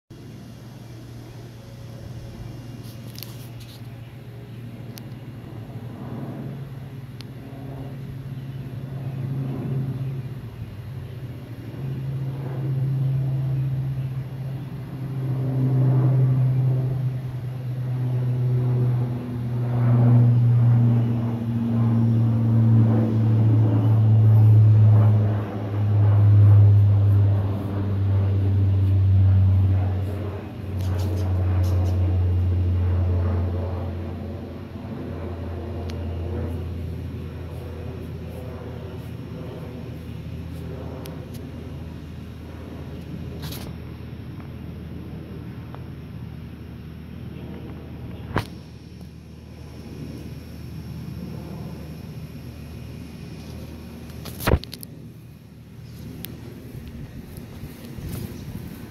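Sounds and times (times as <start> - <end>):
turboprop engines droning overhead: 0.1 - 58.9.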